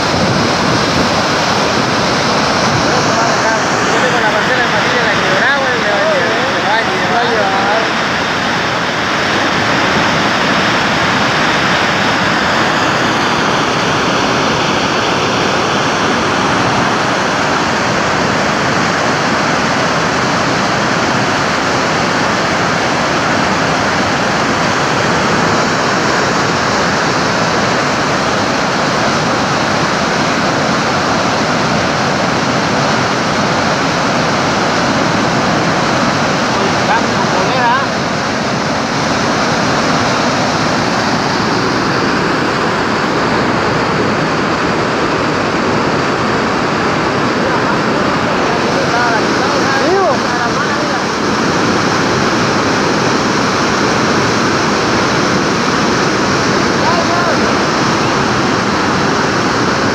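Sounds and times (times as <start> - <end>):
rush of falling water: 0.0 - 59.9.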